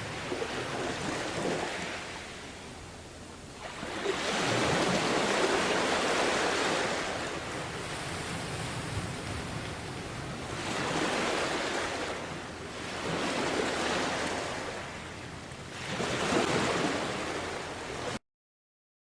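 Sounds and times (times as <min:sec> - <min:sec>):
sea waves washing onto beach: 0:00.0 - 0:18.2.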